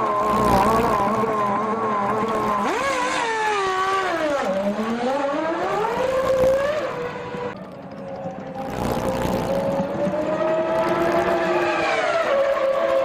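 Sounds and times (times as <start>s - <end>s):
racing car engine revving: 0.0s - 7.6s, 8.5s - 13.0s.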